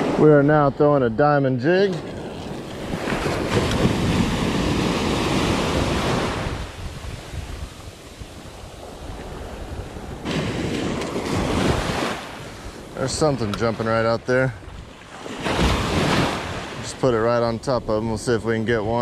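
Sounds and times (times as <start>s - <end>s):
surf waves breaking: 0.0s - 19.0s
wind on microphone: 1.8s - 19.0s.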